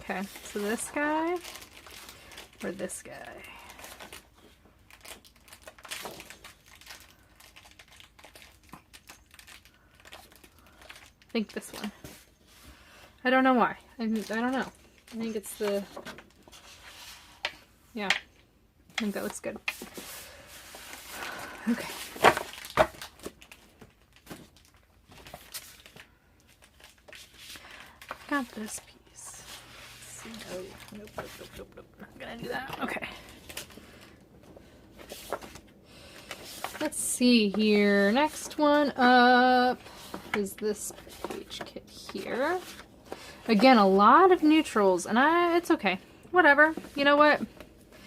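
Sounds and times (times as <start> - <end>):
paper rustling and crinkling: 0.0 - 12.9, 14.0 - 17.6, 19.0 - 45.8, 46.5 - 48.0.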